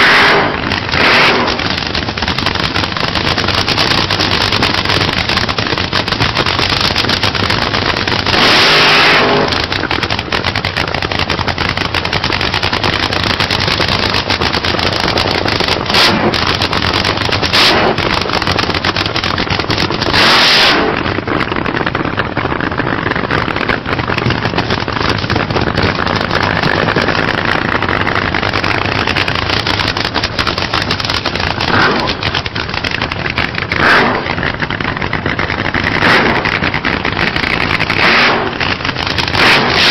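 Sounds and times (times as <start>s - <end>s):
drag racing cars at full throttle: 0.0s - 39.9s
engine blasts: 0.0s - 39.9s.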